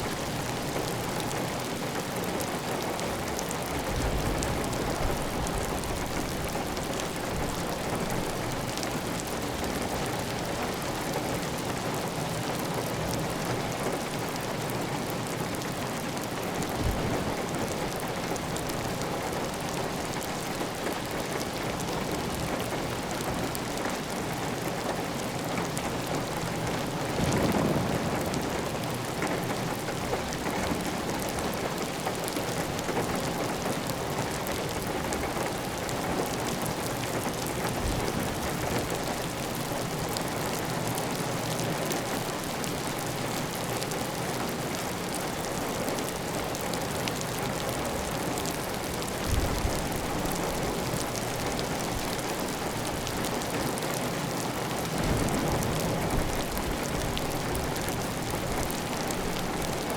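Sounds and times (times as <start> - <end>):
heavy rain on a tiled roof: 0.0 - 59.9.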